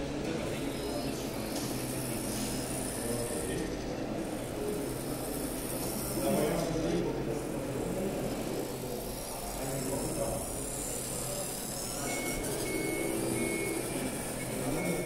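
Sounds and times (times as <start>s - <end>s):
toy car motor running: 0.0s - 15.0s.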